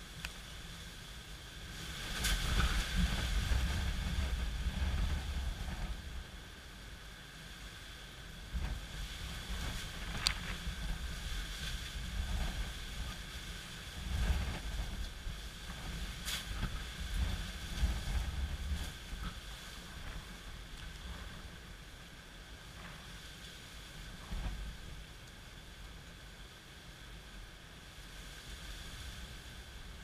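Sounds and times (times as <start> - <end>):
gusty wind buffeting microphone: 0.0 - 30.0
rain hissing: 0.0 - 30.0.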